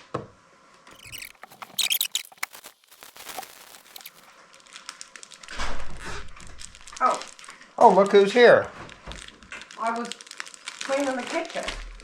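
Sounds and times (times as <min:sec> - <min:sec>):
plastic bag crinkling: 0:01.0 - 0:05.6, 0:06.3 - 0:12.0.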